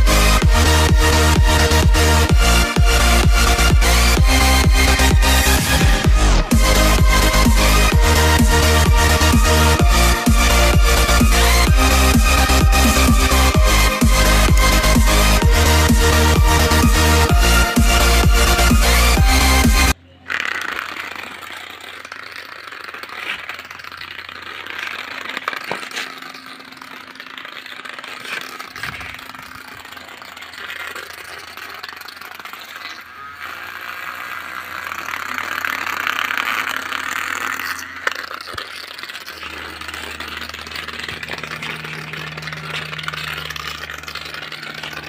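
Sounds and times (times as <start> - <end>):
small toy motor whirring: 0.0 - 45.0
toy body and wheels rattling: 0.0 - 45.0.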